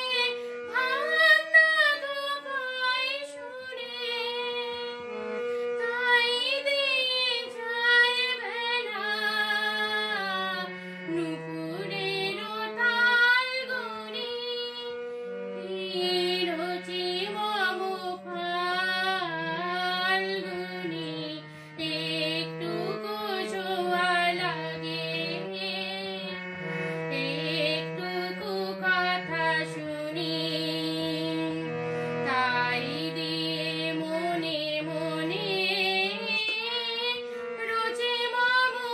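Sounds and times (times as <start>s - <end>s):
woman singing: 0.0s - 15.0s, 15.6s - 26.4s, 27.1s - 38.9s
harmonium: 0.0s - 38.9s.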